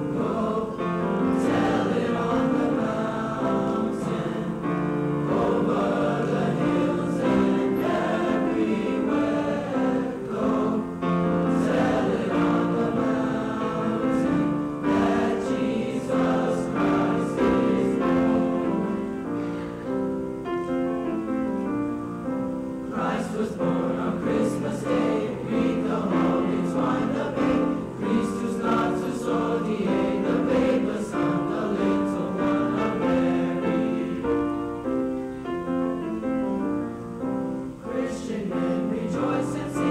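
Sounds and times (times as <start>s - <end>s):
choir singing: 0.0s - 21.7s, 22.8s - 39.9s
piano accompaniment: 0.0s - 39.9s.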